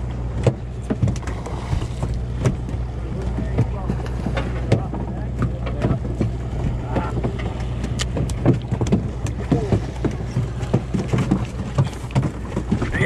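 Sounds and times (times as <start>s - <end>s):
boat engine running: 0.0s - 13.0s
water knocks and splashes: 0.0s - 13.0s.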